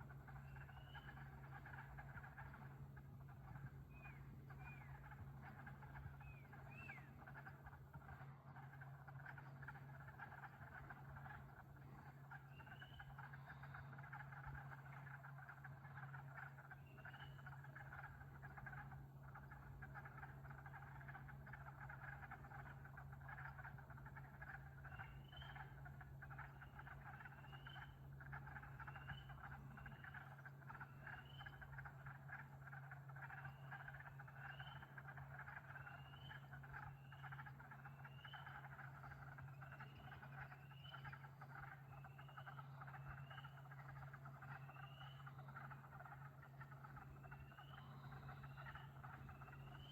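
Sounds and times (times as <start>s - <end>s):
frog chorus trilling: 0.0s - 49.9s
steady low hum: 0.0s - 49.9s.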